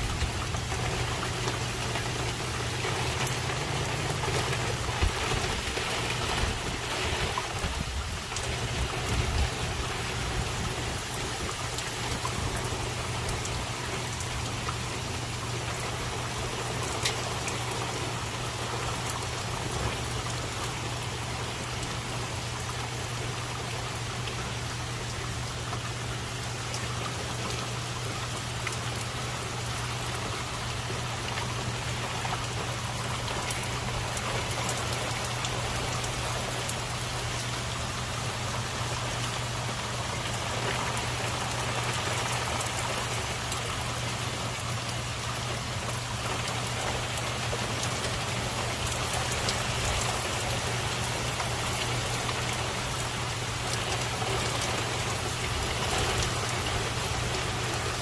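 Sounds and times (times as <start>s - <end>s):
rain falling: 0.0s - 58.0s
raindrops ticking: 0.0s - 58.0s.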